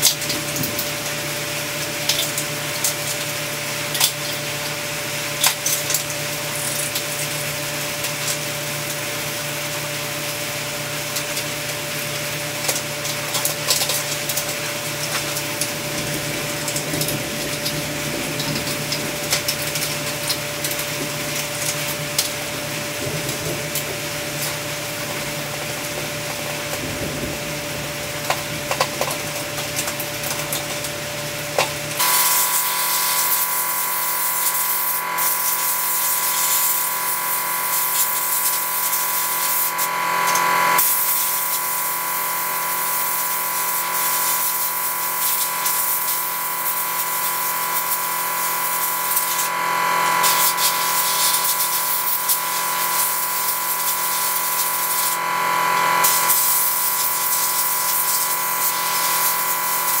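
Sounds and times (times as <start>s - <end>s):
electric air blower running: 0.0s - 60.0s.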